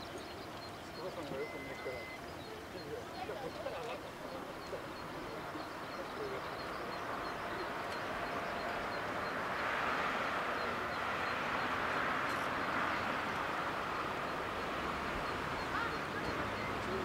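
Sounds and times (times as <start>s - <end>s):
distant jet engines at takeoff: 0.0s - 17.0s.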